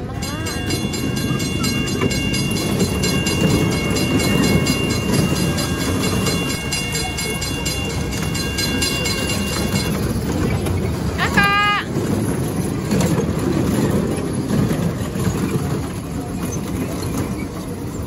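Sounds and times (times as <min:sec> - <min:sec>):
kiddie train rumbling: 0:00.0 - 0:18.0
wheels clicking on track: 0:00.0 - 0:18.0.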